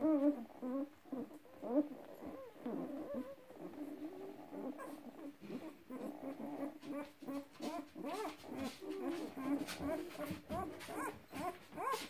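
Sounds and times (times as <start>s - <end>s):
puppies whimpering and squeaking: 0.0s - 12.0s.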